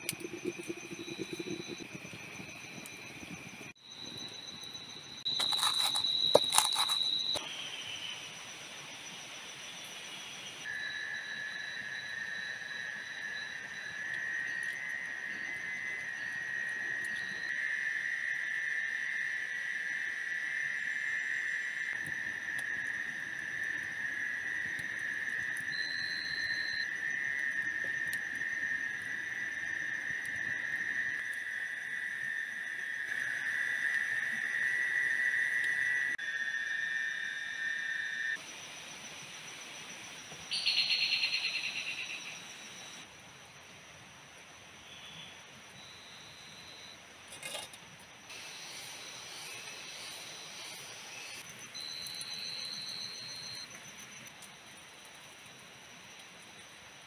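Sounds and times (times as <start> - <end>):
insects trilling chorus: 0.0 - 43.1, 48.3 - 56.6
lower insect trill: 0.0 - 57.0.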